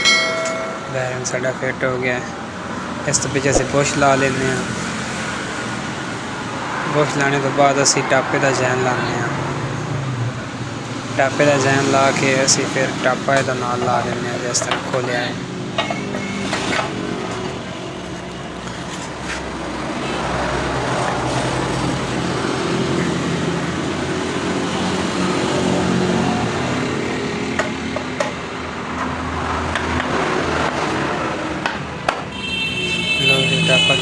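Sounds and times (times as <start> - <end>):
motor traffic passing: 0.3 - 32.3.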